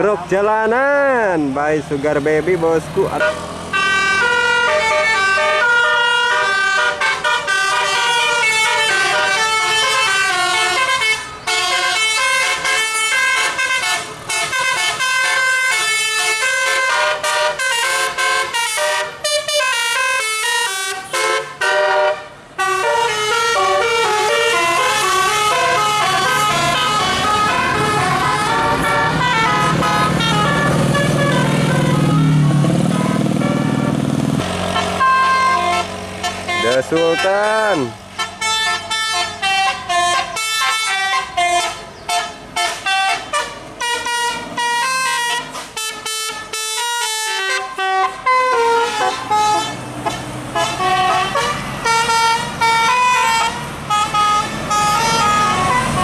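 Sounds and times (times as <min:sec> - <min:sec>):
bus engine rumble: 0:00.0 - 0:56.0
musical air horn playing a tune: 0:03.2 - 0:34.0, 0:34.7 - 0:56.0.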